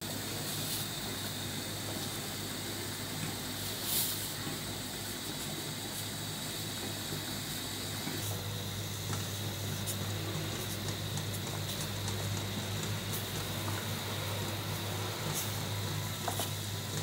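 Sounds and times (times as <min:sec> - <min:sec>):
water simmering in a pot: 0:00.0 - 0:17.0.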